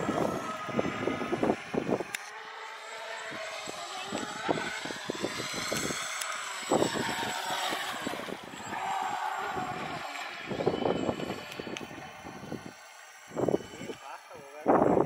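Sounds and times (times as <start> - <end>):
high motor whine: 0.0 - 15.0.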